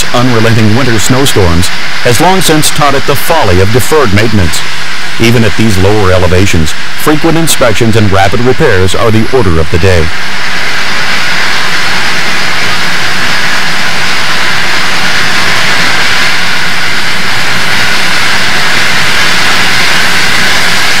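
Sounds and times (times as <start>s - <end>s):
steam locomotive running: 0.0s - 21.0s.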